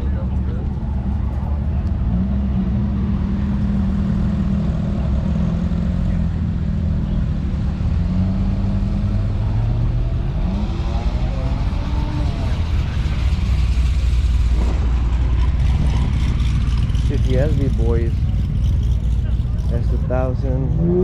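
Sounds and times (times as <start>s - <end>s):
car engine running low revs: 0.0s - 21.0s.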